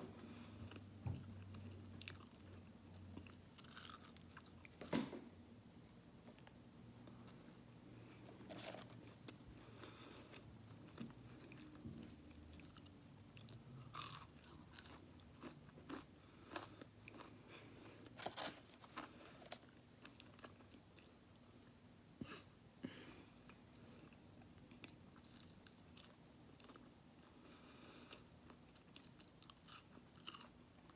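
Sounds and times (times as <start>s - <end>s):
person chewing food: 0.2s - 4.8s, 6.2s - 21.8s, 23.3s - 30.9s.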